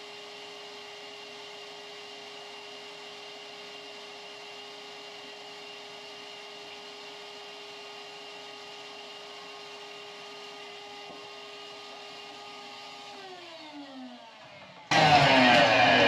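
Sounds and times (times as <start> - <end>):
vacuum motor running: 0.0 - 16.0.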